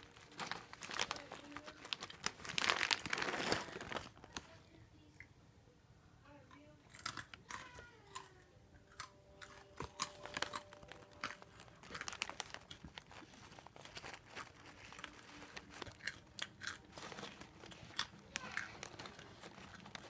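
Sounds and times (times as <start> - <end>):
crisp snacks crunching: 0.0 - 4.4, 6.9 - 8.3, 8.9 - 20.0.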